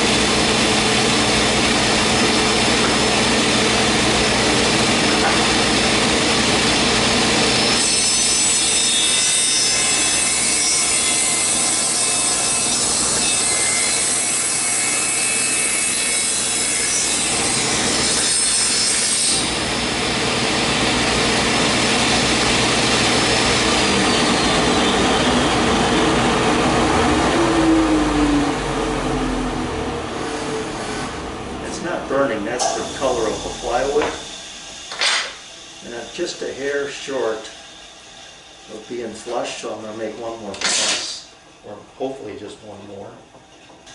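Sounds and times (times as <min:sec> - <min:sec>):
table saw cutting wood: 0:00.0 - 0:41.3.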